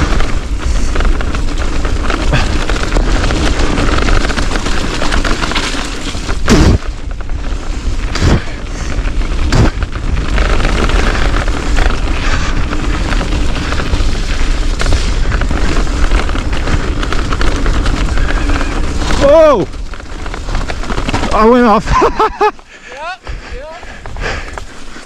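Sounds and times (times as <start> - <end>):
bike tyres rattling over rock: 0.0 - 25.0.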